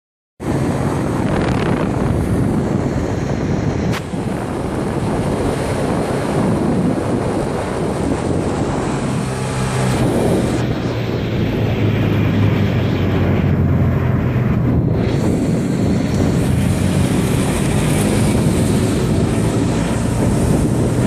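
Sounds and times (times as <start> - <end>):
golf cart driving: 0.4 - 21.0
wind buffeting microphone: 0.4 - 21.0.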